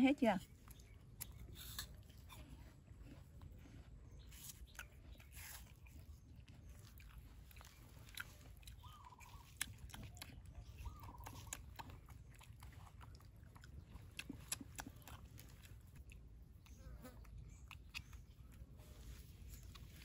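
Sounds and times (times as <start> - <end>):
monkey chewing and biting: 0.4 - 20.0.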